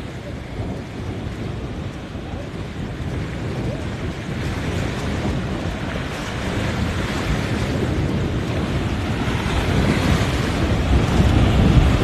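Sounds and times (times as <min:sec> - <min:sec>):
sea surf washing: 0:00.0 - 0:12.0
wind buffeting microphone: 0:00.0 - 0:12.0.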